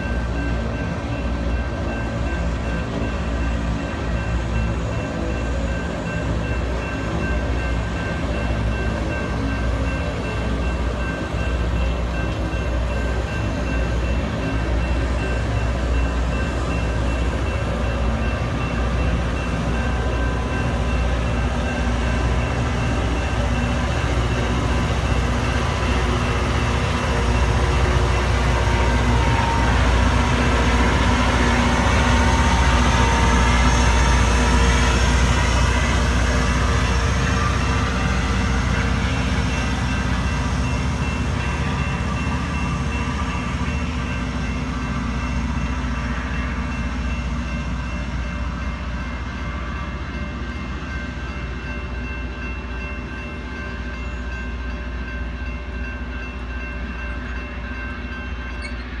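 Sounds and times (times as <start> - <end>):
rail grinder train passing: 0.0 - 59.0.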